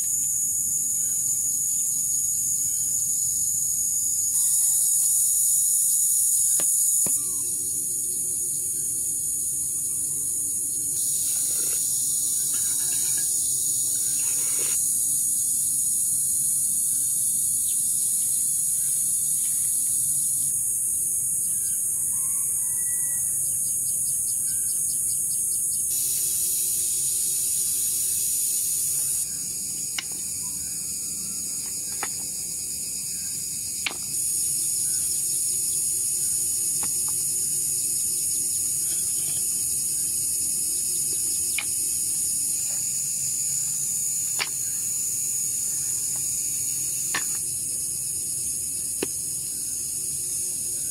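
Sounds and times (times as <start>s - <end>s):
insect chorus buzzing: 0.0s - 50.9s.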